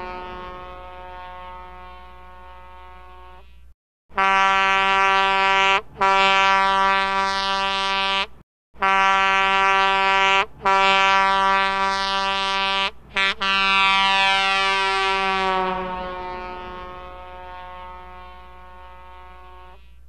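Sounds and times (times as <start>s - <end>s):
truck air horn blasts: 0.0s - 20.0s.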